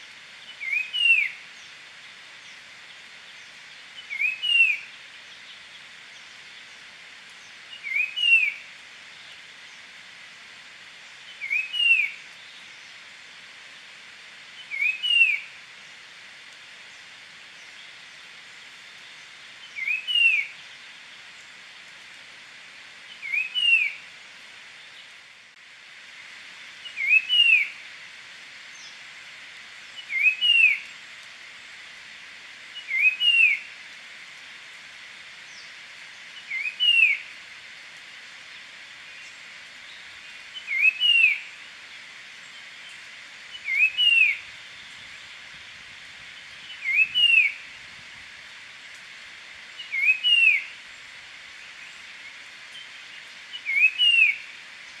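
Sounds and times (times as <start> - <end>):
background hiss: 0.0 - 55.0.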